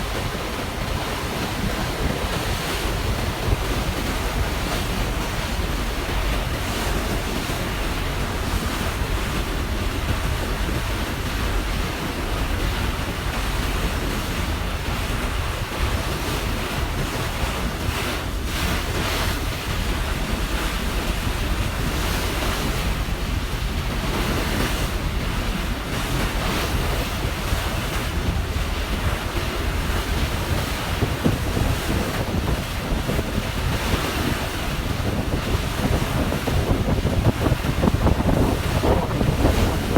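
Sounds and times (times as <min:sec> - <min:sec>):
water rushing past a ferry: 0:00.0 - 0:39.9
wind buffeting the microphone: 0:00.0 - 0:39.9.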